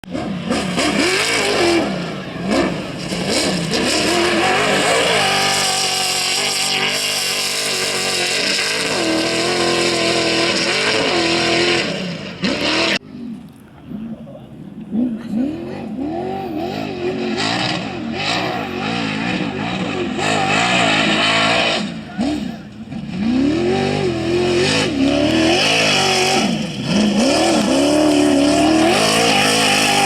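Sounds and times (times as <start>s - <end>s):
race vehicle engine revving: 0.0s - 30.0s.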